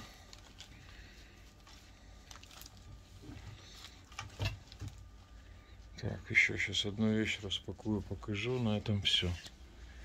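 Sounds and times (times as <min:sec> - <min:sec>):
background hum: 0:00.0 - 0:10.0
faint rustles and clicks: 0:00.0 - 0:10.0.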